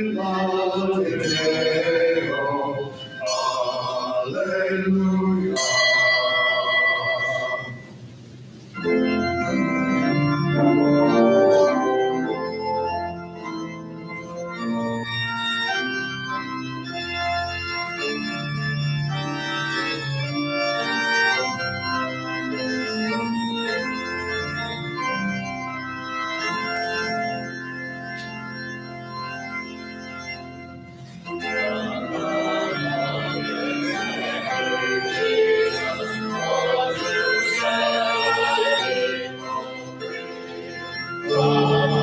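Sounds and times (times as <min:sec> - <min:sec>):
church organ playing: 0:00.0 - 0:42.0.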